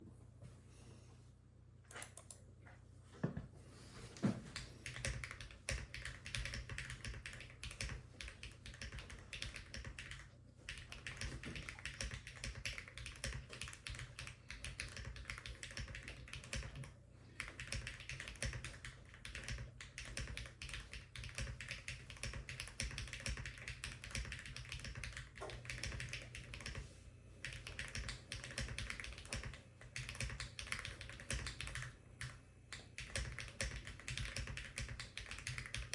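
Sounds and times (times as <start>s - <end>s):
mechanical keyboard typing: 4.6s - 26.8s, 27.4s - 35.9s.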